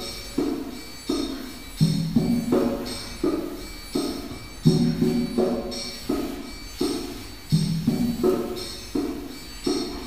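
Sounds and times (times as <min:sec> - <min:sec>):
rhythmic struck pitched notes: 0:00.0 - 0:10.0.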